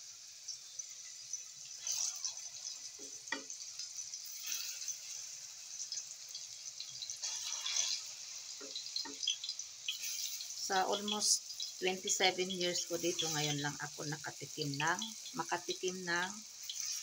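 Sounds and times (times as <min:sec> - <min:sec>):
oil sizzling and crackling: 0:00.0 - 0:17.0.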